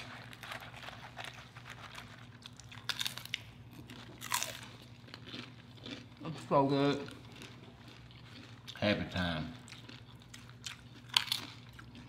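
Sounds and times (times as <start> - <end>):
chips crunching while chewed: 0.0 - 12.0.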